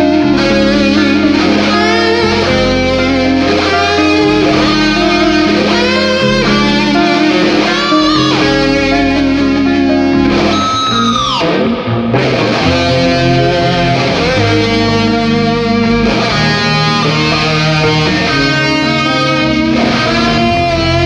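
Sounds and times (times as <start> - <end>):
bass: 0.0 - 21.0
heavy metal electric guitar leads: 0.0 - 21.0.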